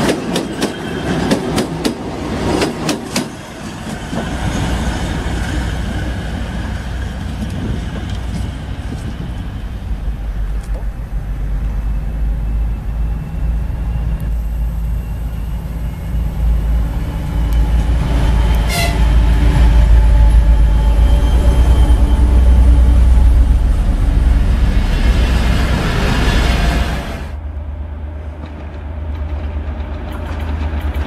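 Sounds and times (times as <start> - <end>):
diesel locomotive engines droning: 0.0 - 31.0
passenger coaches rolling past: 0.0 - 31.0.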